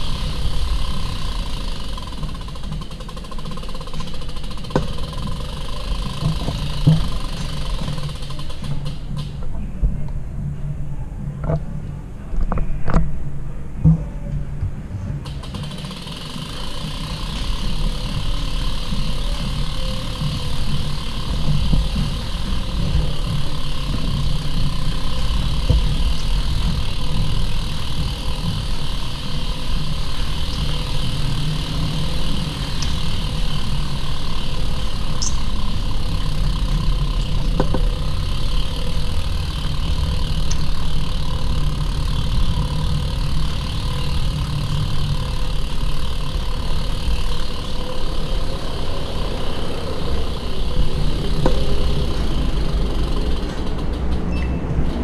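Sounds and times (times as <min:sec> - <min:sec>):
bicycle tyres rolling on path: 0:00.0 - 0:13.4, 0:14.0 - 0:55.0.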